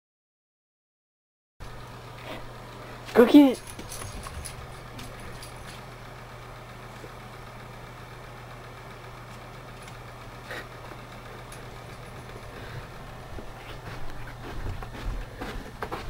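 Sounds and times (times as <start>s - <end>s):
steady low hum: 1.6s - 16.0s.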